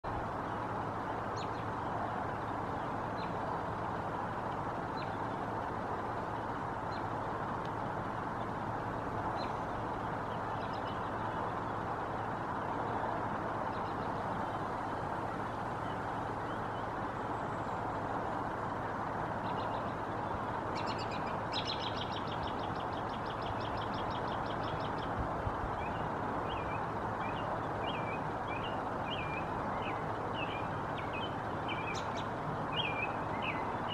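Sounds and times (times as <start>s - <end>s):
low outdoor background rumble: 0.0s - 33.9s
songbirds chirping: 0.0s - 33.9s
songbird trill: 0.1s - 33.9s.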